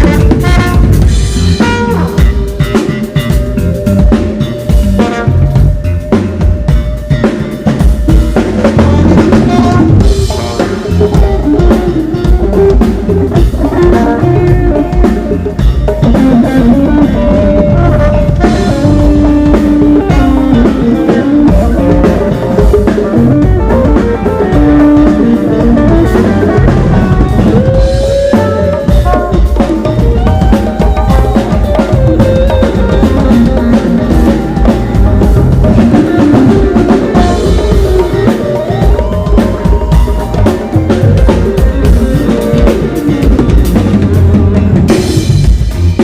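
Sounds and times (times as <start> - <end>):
drum kit beat with rimshots: 0.0 - 46.0
live band playing samba rock: 0.0 - 46.0.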